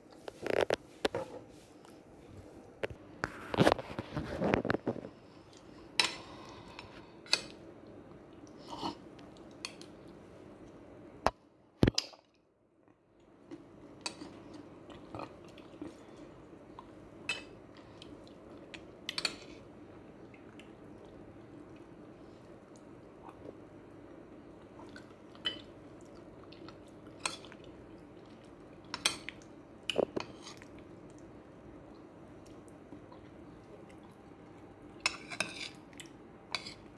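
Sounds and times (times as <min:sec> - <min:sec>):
soft chewing: 0:00.0 - 0:10.8, 0:12.0 - 0:36.9.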